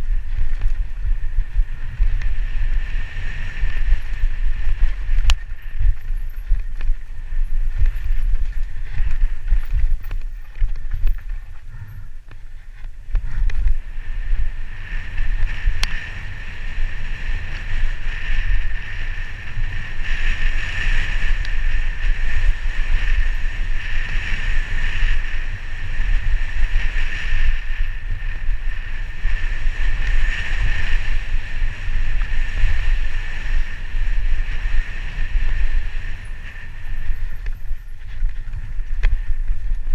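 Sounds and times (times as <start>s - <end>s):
bike rattling over ground: 0.0s - 39.9s
wind buffeting: 0.0s - 39.9s.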